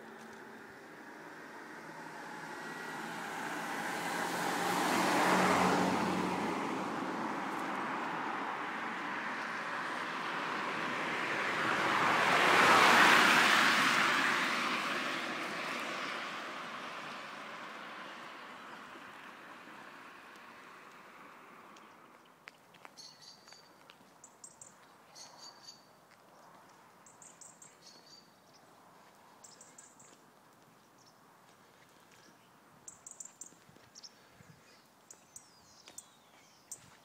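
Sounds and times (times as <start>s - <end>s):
cars passing by: 0.0s - 37.0s.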